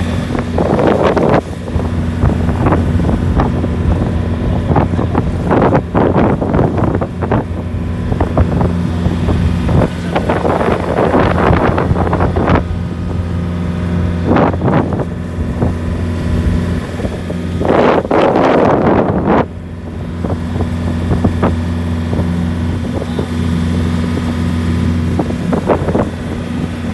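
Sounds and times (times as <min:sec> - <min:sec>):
motorboat engine humming: 0:00.0 - 0:26.9
wind on microphone: 0:00.0 - 0:26.9.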